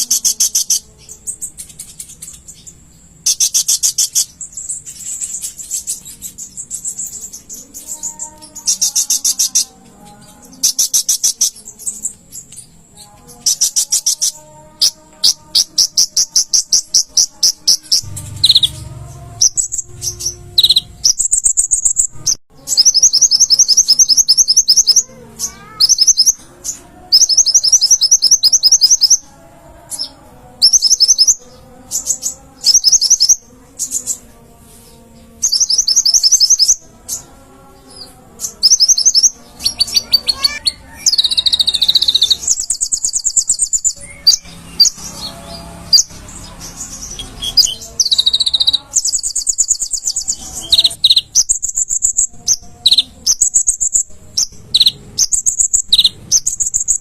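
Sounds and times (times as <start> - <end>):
sunbird singing rapid trills: 0.0 - 29.3, 29.9 - 34.3, 35.3 - 37.3, 37.9 - 57.0.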